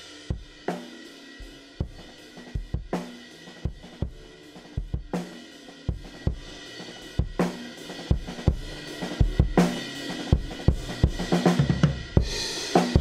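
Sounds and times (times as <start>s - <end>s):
distorted drum kit playing: 0.0s - 13.0s.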